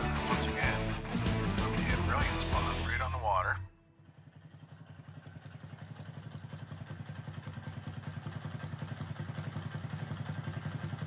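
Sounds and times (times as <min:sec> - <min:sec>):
motorcycle engine running low: 0:00.0 - 0:11.0.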